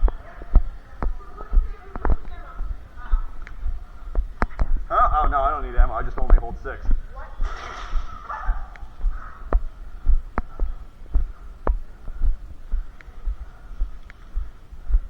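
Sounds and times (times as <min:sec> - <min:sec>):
footstep thuds: 0:00.0 - 0:15.0.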